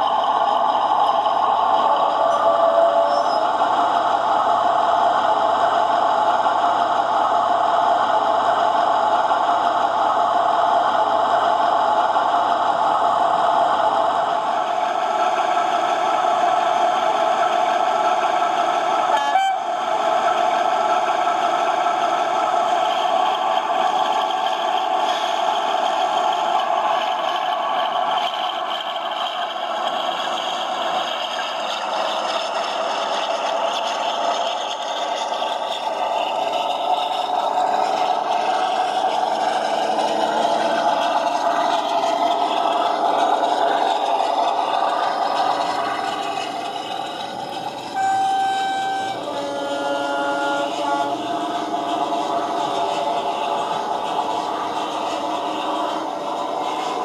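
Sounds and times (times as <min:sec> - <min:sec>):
model train running: 0:00.0 - 0:57.0.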